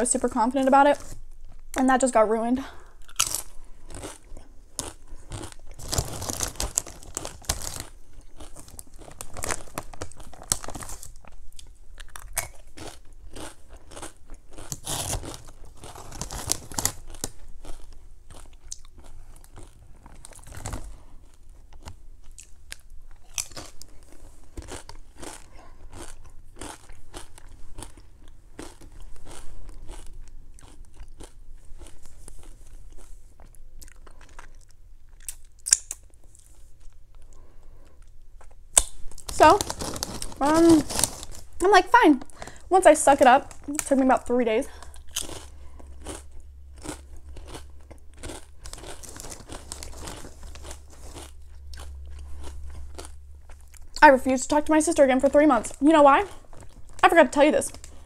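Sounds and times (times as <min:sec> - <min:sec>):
crunching chips: 0:03.0 - 0:42.7, 0:44.7 - 0:54.0, 0:55.2 - 0:58.0.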